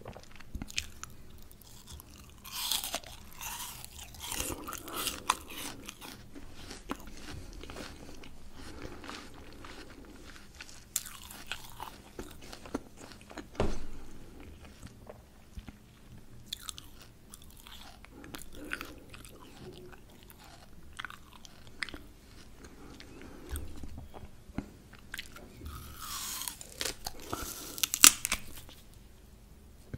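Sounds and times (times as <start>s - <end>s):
chewing crunchy apple: 0.0s - 28.9s.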